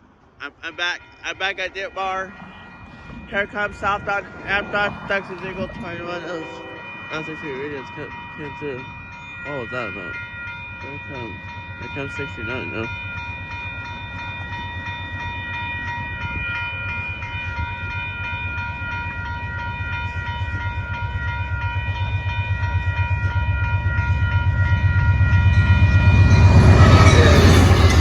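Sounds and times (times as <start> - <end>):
railroad crossing bell ringing: 0.0 - 28.0
train rumble: 0.0 - 28.0.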